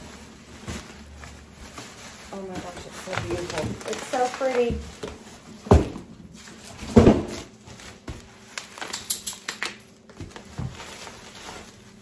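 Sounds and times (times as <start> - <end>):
bubble wrap and paper rustling: 0.0 - 12.0.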